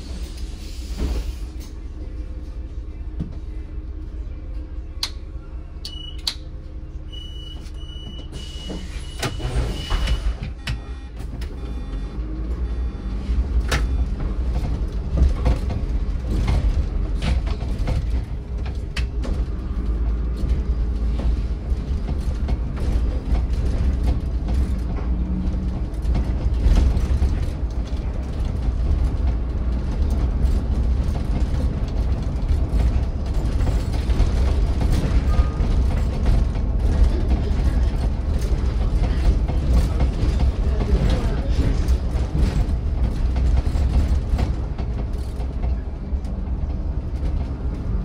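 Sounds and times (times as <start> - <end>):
bus engine and road rumble: 0.0 - 48.0
rattles and creaks of bus body: 0.0 - 48.0.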